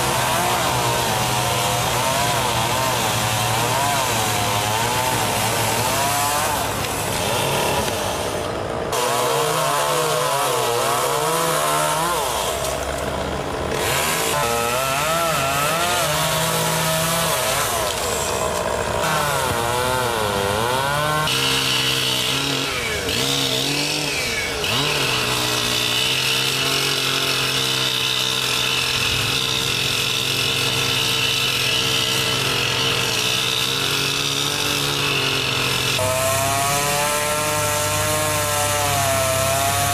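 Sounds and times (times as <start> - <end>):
chainsaw cutting branches: 0.0 - 39.9.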